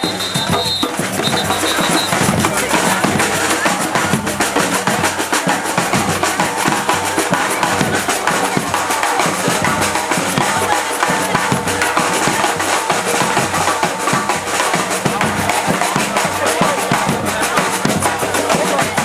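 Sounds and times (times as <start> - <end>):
percussion group playing drums: 0.0 - 19.0.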